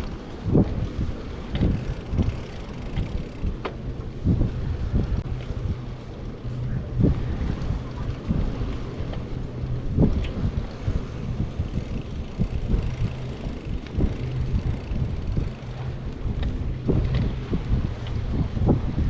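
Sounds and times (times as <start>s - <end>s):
bicycle knocks and rattles: 0.0s - 19.0s
wind rumbling on microphone: 0.0s - 19.0s.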